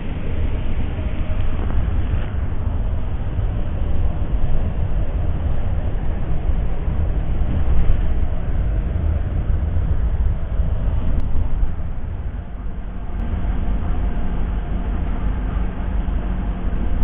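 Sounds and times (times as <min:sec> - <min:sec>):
bus engine and road rumble: 0:00.0 - 0:17.0
faint steady whine: 0:00.0 - 0:17.0.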